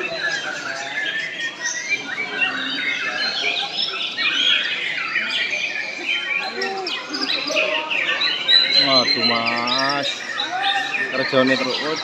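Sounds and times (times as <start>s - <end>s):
caged songbirds singing: 0.0s - 12.0s.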